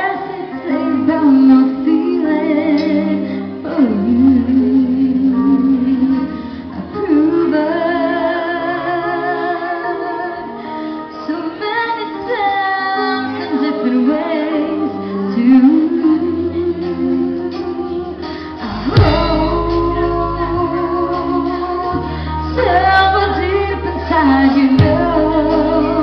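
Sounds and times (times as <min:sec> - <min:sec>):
live band with drums and guitar: 0:00.0 - 0:26.0
woman singing with vibrato: 0:00.0 - 0:26.0.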